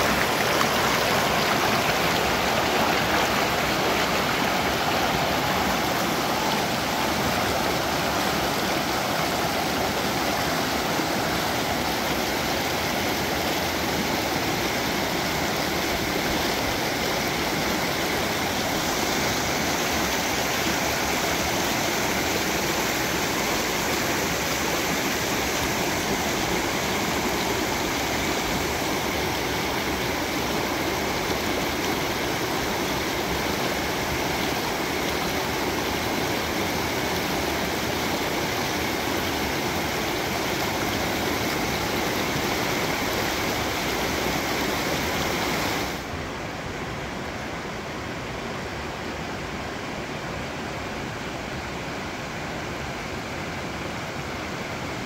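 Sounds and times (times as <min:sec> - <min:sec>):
spring water rushing: 0:00.0 - 0:49.2.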